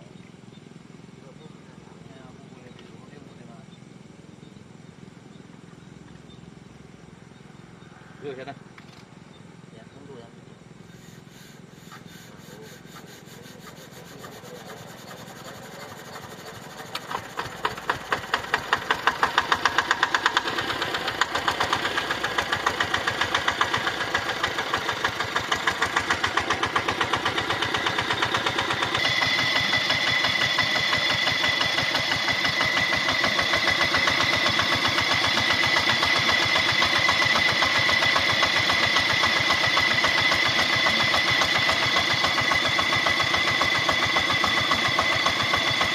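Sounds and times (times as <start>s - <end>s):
diesel pump engine chugging: 0.0s - 45.9s
steady high whine: 0.0s - 45.9s.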